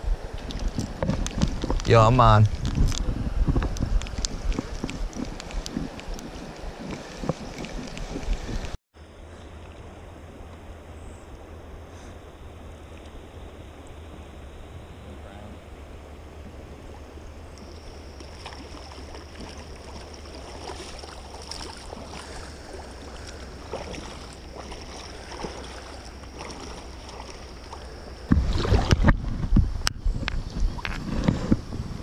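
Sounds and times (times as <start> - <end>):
shallow river running: 0.0 - 32.0
wind rumbling on microphone: 0.0 - 32.0.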